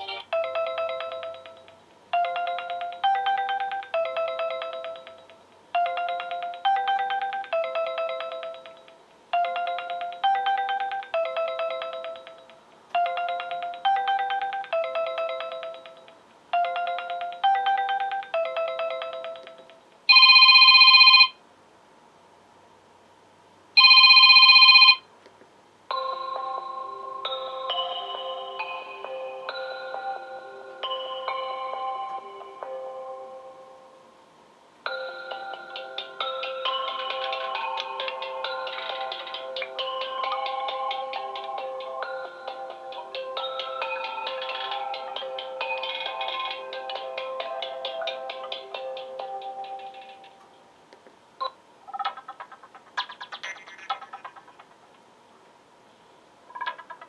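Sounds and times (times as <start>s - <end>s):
phone ringtone melody: 0.0s - 21.4s, 23.8s - 25.0s, 25.9s - 34.0s, 34.9s - 50.4s.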